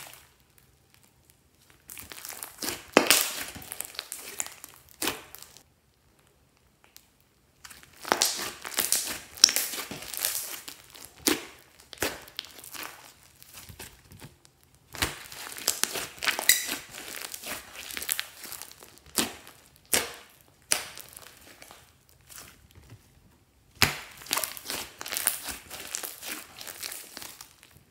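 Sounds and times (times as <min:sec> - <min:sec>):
slime squished by hand: 0:01.6 - 0:05.6, 0:07.6 - 0:22.8, 0:23.7 - 0:27.8.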